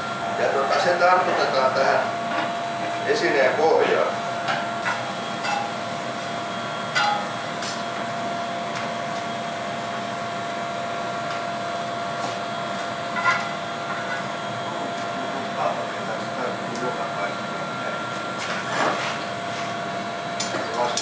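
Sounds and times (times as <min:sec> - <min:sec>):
furnaces and blowers droning: 0:00.0 - 0:21.0.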